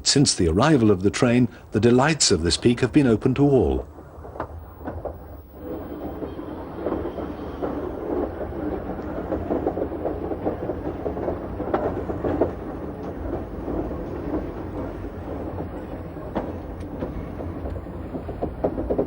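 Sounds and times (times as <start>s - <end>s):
train rumbling: 0.0s - 19.0s
wheels clattering: 2.5s - 19.0s.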